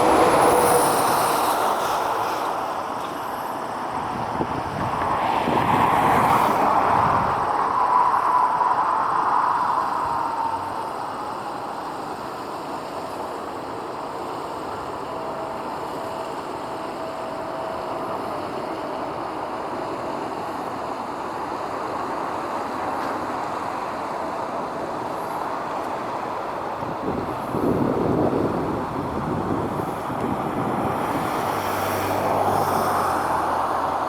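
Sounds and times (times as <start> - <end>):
distant jet aircraft roar: 0.0 - 34.0.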